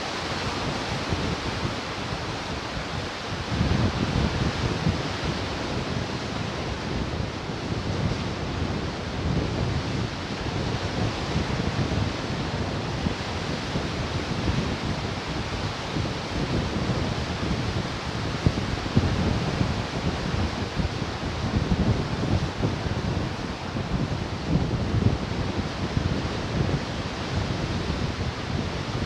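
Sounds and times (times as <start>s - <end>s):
ocean surf washing ashore: 0.0s - 29.0s
wind noise on microphone: 0.0s - 29.0s.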